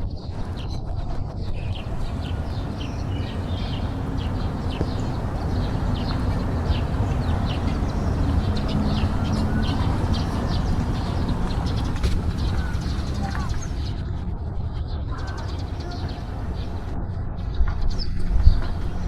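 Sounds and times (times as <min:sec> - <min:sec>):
steady low rumble: 0:00.8 - 0:19.0
small birds chirping: 0:01.4 - 0:14.2, 0:14.8 - 0:19.0.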